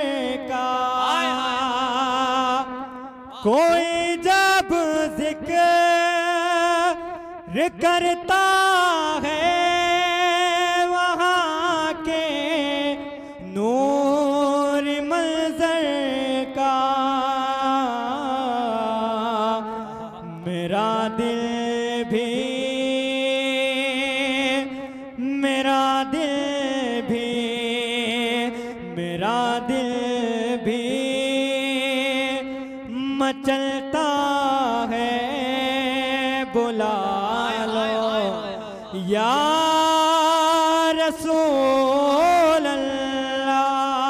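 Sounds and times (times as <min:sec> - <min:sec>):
man singing unaccompanied: 0:00.0 - 0:44.0.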